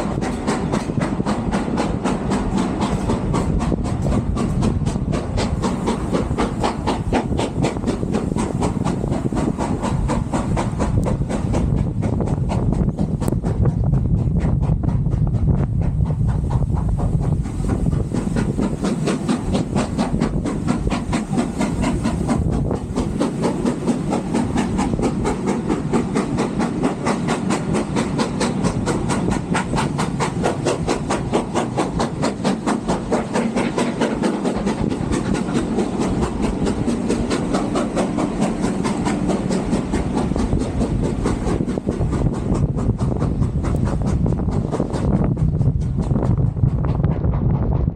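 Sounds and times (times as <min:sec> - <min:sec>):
carriages rumbling on rails: 0:00.0 - 0:47.9
steam locomotive exhaust chuffing: 0:00.0 - 0:47.9.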